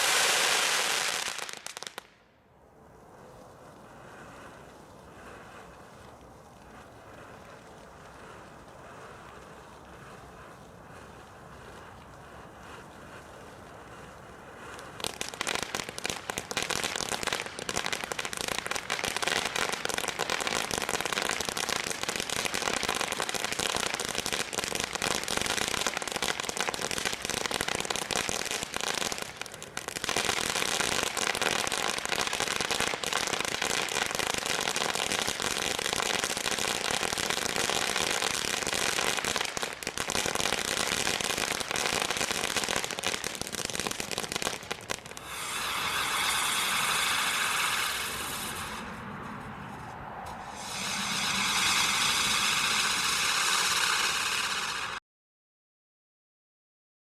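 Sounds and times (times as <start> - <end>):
firework crackling and popping: 0.0 - 55.0.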